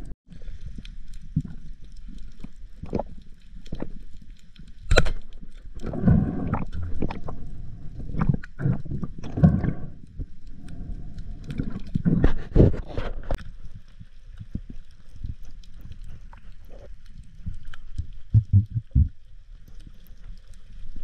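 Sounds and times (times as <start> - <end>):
muffled water sloshing and gurgling: 0.0 - 21.0.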